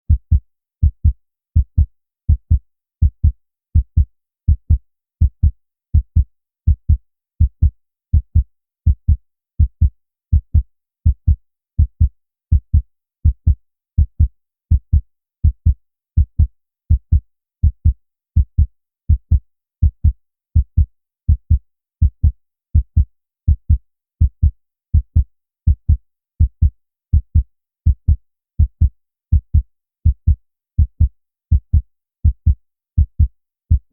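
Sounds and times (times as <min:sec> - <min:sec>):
heart beating: 0:00.1 - 0:33.9.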